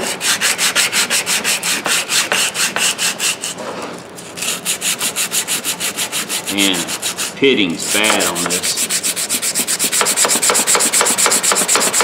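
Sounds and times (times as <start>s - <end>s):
sandpaper scratching on steel: 0.0s - 3.6s, 4.2s - 12.0s.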